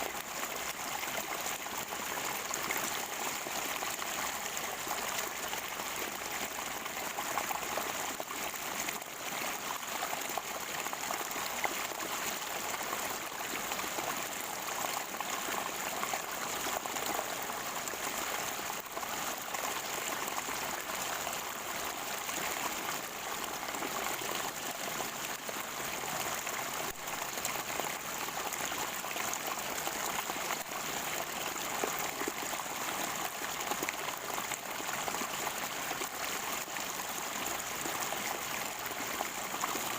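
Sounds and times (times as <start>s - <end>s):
spring water gurgling: 0.0s - 39.9s.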